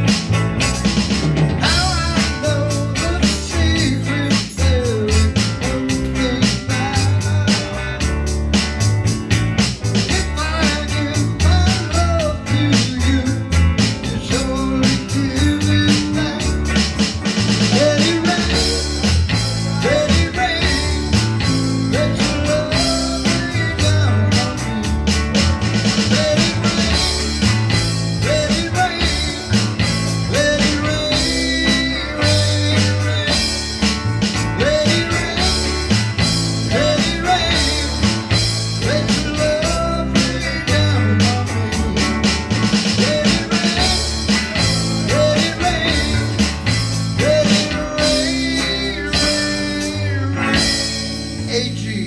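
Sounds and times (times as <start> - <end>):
live rock music with guitar: 0.0 - 52.0.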